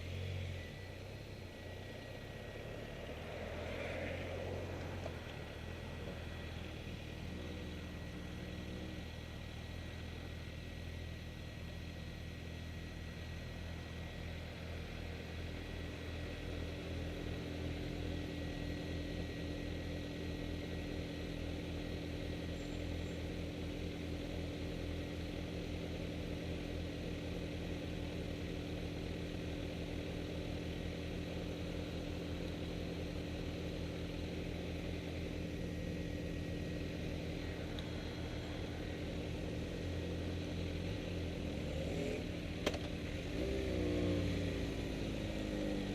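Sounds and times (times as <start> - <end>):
motorcycle engine idling: 4.7 - 45.9.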